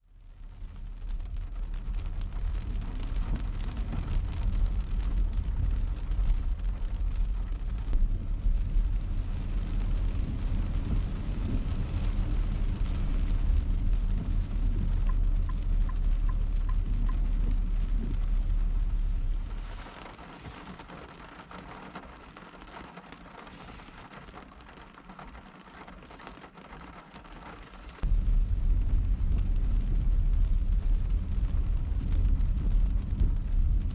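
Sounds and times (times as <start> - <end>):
rain hiss: 0.1 - 33.9
road and engine rumble: 0.2 - 33.9.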